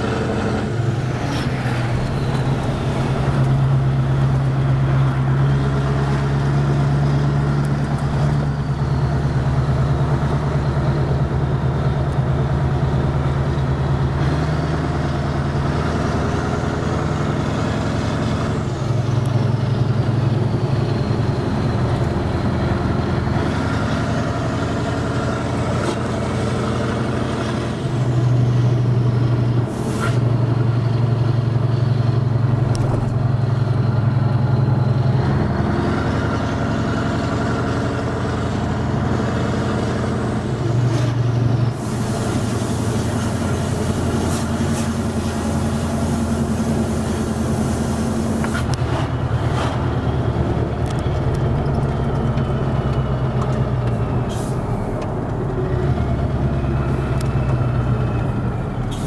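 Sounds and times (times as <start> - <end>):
truck engine droning: 0.0 - 59.0.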